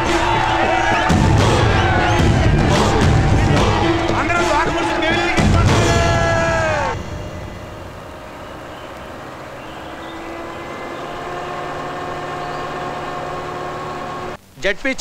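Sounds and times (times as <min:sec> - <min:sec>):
jeep engines driving: 0:00.0 - 0:14.4.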